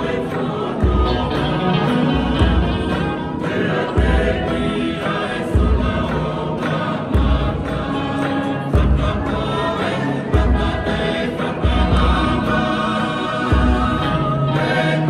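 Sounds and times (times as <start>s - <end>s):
group singing in harmony: 0.0s - 15.0s.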